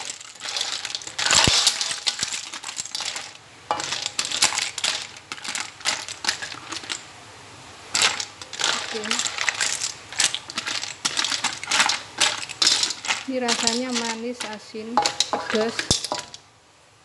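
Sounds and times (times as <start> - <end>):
clam shells rattling in a wok: 0.0 - 7.1, 7.9 - 16.4.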